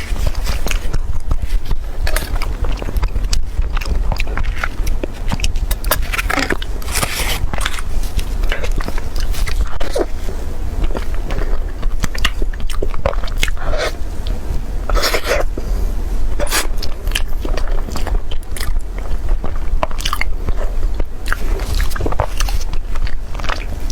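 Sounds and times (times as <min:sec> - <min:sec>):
person chewing crunchy food: 0:00.0 - 0:23.9
steady low hum: 0:00.0 - 0:23.9.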